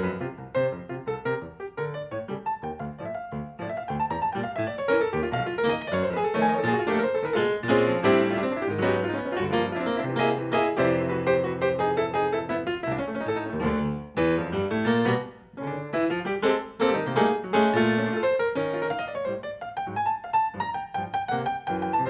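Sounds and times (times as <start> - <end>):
jazz piano playing: 0.0 - 22.0.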